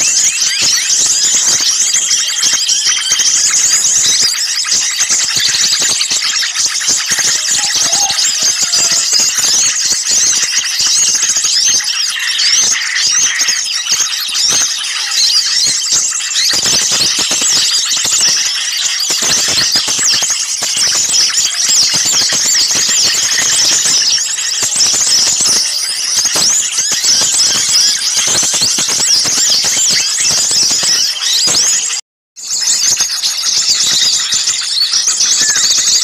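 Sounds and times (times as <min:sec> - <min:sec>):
small songbirds chirping: 0:00.0 - 0:36.0.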